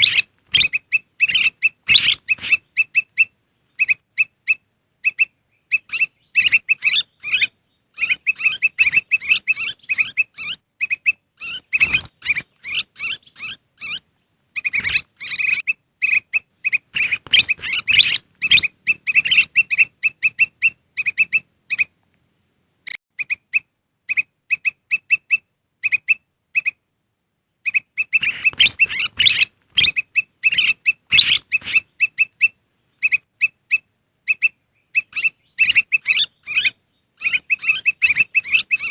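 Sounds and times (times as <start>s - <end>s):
bird chattering song: 0.0s - 22.0s, 27.6s - 38.9s
birds calling with sharp chips: 0.0s - 22.0s, 27.6s - 38.9s.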